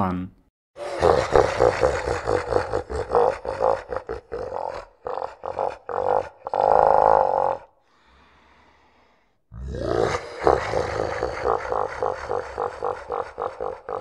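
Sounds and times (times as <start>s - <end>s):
deep slowed monster laugh: 0.8s - 7.8s, 9.6s - 14.0s.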